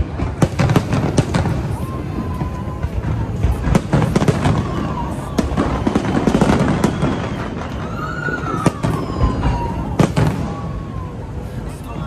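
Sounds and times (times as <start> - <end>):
sharp firework bangs: 0.0 - 11.0
firework shells booming and crackling: 0.0 - 12.0
steady low rumble: 0.0 - 12.0.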